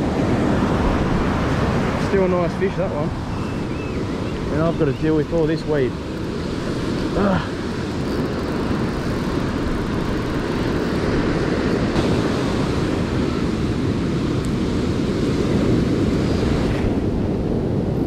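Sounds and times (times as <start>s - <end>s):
surf washing up beach: 0.0s - 18.0s
wind rumble on microphone: 0.0s - 18.0s.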